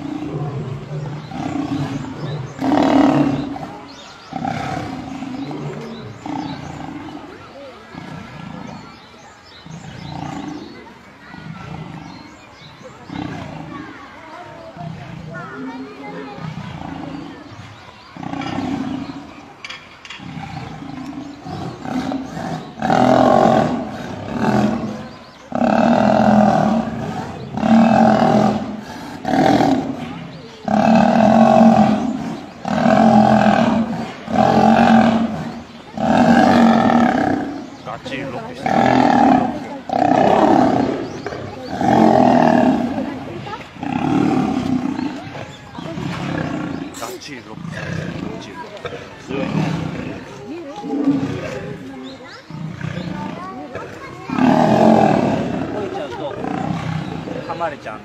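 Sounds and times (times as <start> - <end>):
lions growling and snarling: 0.0 - 58.0.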